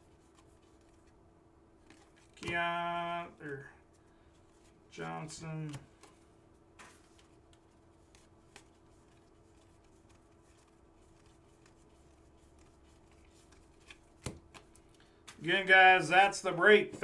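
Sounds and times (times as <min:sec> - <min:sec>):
faint steady hum: 0:00.0 - 0:17.0
trading cards rustling: 0:01.8 - 0:17.0.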